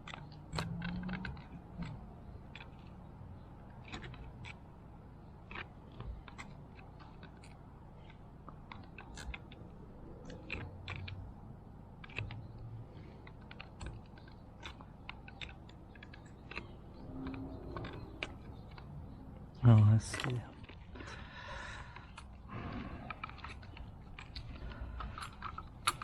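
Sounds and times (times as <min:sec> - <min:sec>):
small parts clicking and tapping: 0:00.0 - 0:26.0.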